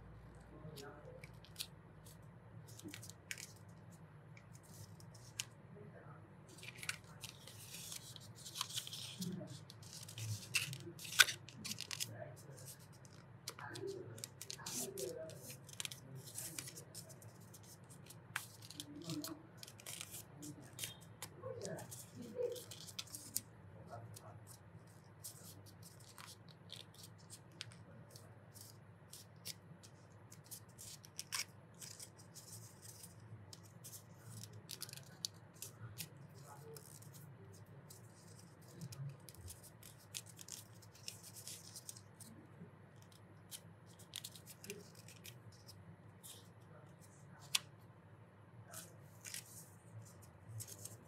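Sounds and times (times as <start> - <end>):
paper crinkling and creasing: 0.7 - 3.8, 6.5 - 42.4, 43.0 - 47.7, 48.7 - 51.0.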